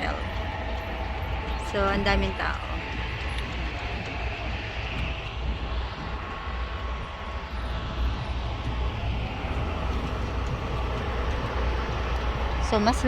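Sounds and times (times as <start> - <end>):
engine roar: 0.0 - 13.0
wind buffeting microphone: 0.0 - 13.0.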